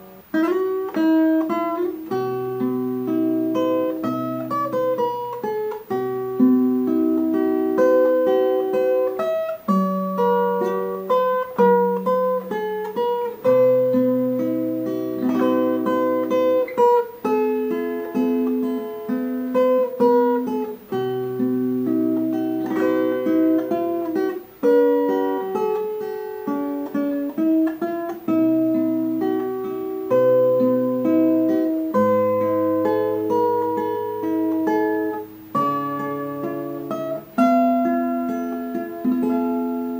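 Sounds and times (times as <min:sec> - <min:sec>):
acoustic guitar picking: 0:00.0 - 0:39.9.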